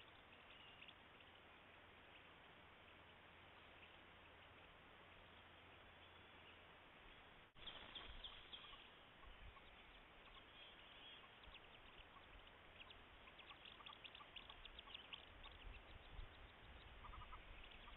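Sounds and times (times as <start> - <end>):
ducklings peeping: 0.0 - 6.6, 7.6 - 17.9
microphone hiss: 0.0 - 17.9.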